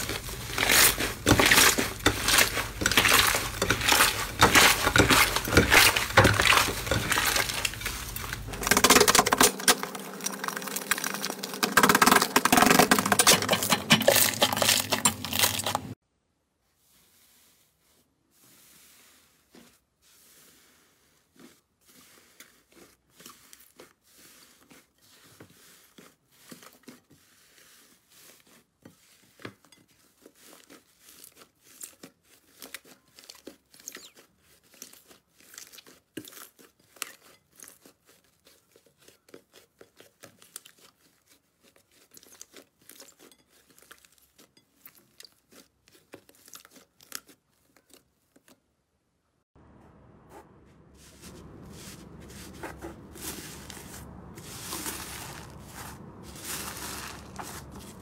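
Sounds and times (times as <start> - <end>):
slime crackling and crunching: 0.0 - 16.0, 20.1 - 48.6, 51.0 - 58.0.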